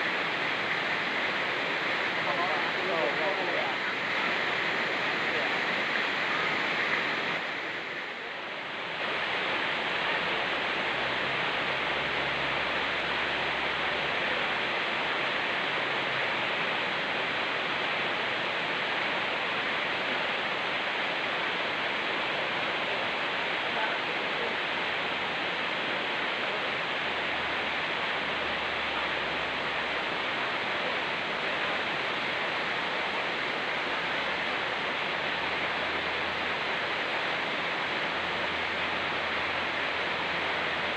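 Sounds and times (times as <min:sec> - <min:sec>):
fast-flowing stream: 0:00.0 - 0:40.9
rain falling: 0:00.0 - 0:40.9.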